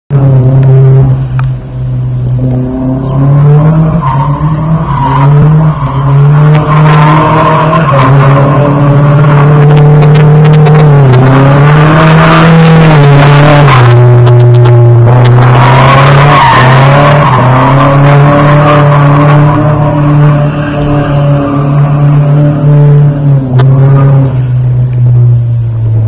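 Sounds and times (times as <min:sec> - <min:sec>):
car engine at high revs: 0:00.1 - 0:26.0.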